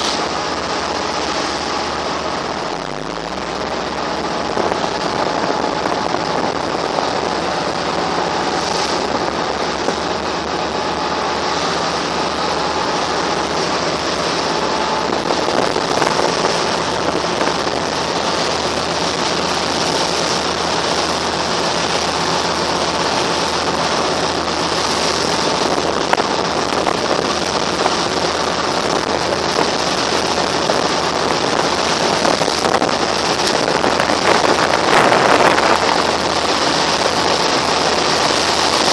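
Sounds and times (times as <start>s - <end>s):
boat engine: 0.0s - 38.9s
water rushing off boat hull: 0.0s - 38.9s.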